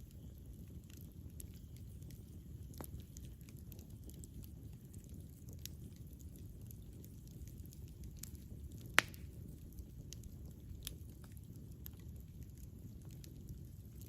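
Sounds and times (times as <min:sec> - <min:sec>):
campfire burning: 0:00.0 - 0:14.0
fire crackles: 0:00.0 - 0:14.0.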